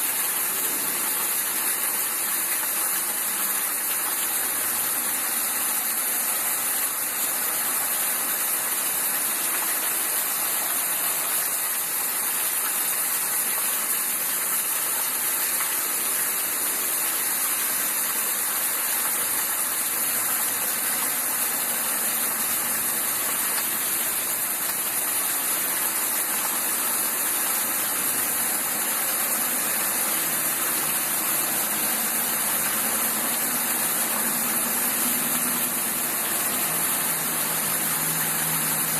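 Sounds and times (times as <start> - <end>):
rushing floodwater from heavy rain: 0.0 - 38.9.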